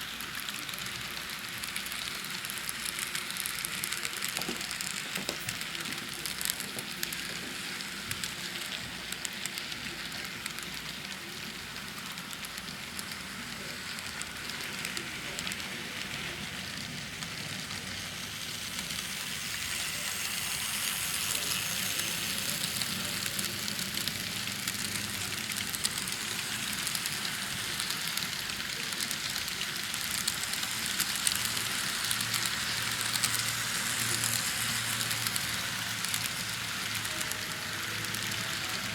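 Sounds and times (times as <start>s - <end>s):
model train wheels on rail: 0.0s - 38.9s.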